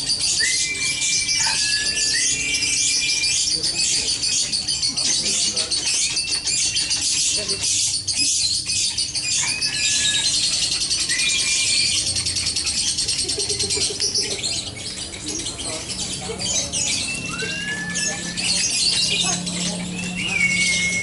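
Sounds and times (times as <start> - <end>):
songbirds singing trills: 0.0 - 21.0.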